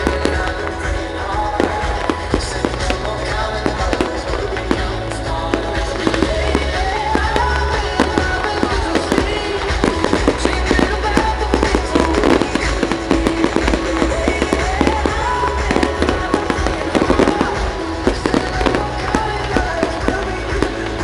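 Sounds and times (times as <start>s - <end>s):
fireworks bangs and crackles: 0.0s - 21.0s
pop music with singing: 0.0s - 21.0s.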